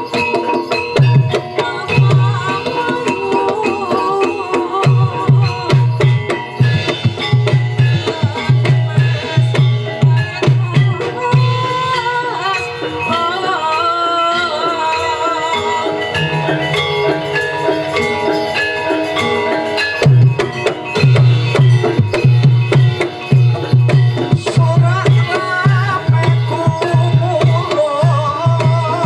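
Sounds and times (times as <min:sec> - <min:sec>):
gamelan music: 0:00.0 - 0:29.0
ringing metallophone notes: 0:00.0 - 0:29.0
wavering held melody: 0:00.0 - 0:29.0.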